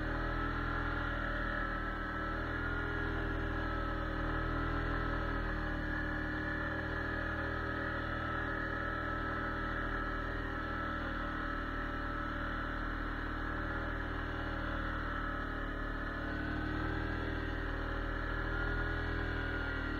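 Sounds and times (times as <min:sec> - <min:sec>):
atv engine running: 0:00.0 - 0:19.9.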